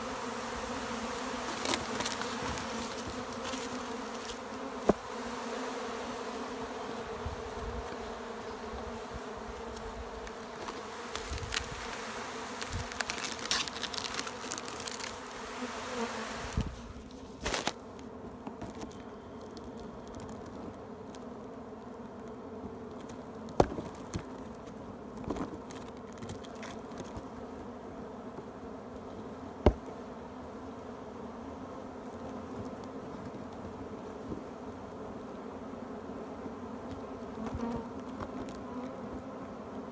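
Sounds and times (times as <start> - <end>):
honeybee swarm buzzing: 0.0 - 39.9.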